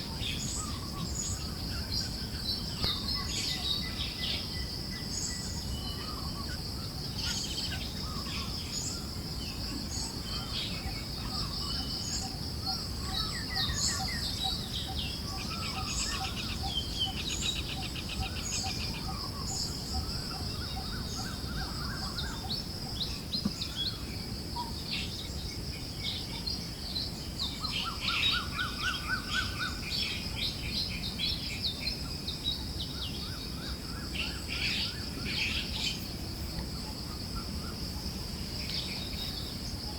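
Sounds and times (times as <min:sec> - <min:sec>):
birds chirping and trilling: 0:00.0 - 0:39.9
high insect drone: 0:00.0 - 0:39.9.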